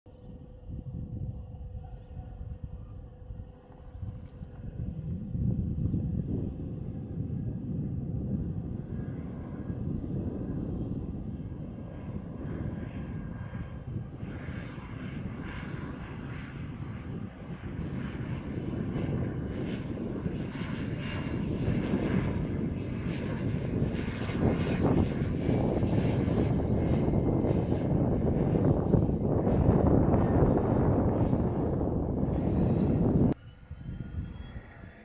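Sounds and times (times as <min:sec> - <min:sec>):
turboprop aircraft engine: 0:00.1 - 0:35.0
aircraft rolling on runway: 0:03.4 - 0:35.0.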